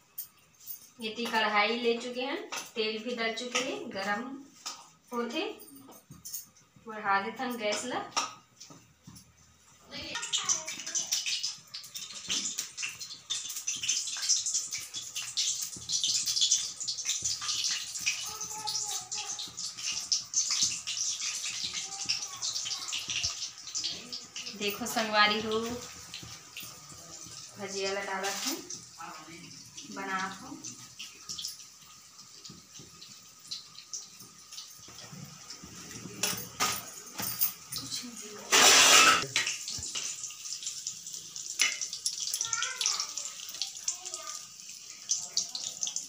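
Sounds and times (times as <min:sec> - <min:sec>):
fritters sizzling in hot oil: 0:00.0 - 0:46.0.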